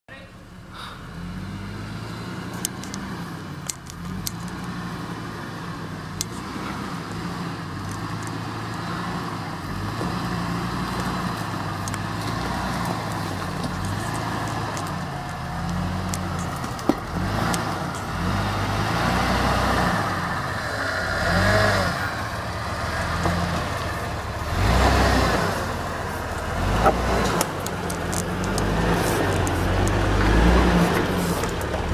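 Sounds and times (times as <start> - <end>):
engine revving under load: 0.6 - 31.9.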